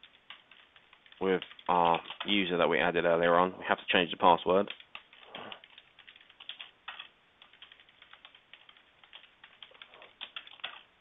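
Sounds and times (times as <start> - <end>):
faint keyboard typing: 0.0 - 2.8, 4.2 - 11.0.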